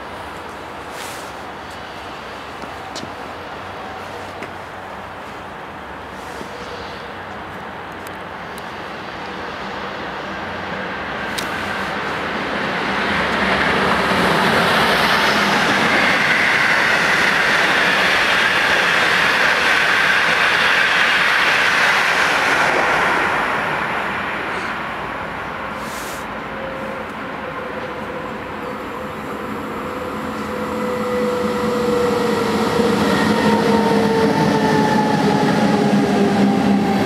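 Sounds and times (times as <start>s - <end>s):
train wheels rolling on rails: 0.0s - 37.0s.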